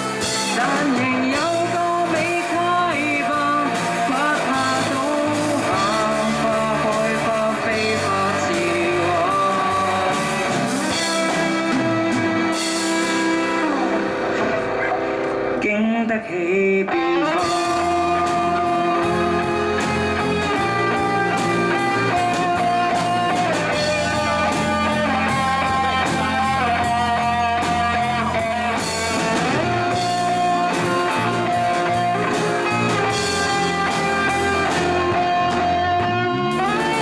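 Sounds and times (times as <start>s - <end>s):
bass: 0.0s - 37.0s
drums: 0.0s - 37.0s
electric guitar bending long notes: 0.0s - 37.0s.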